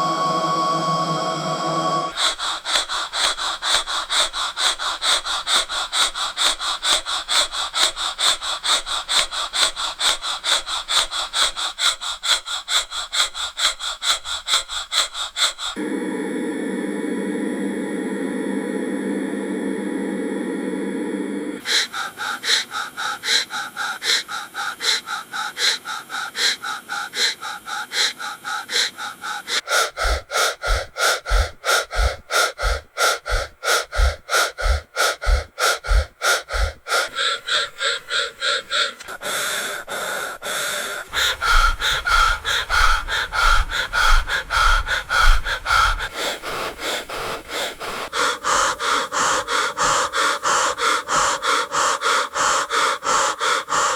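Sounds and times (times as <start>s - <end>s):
breath-like machine puffs: 0.0s - 53.9s.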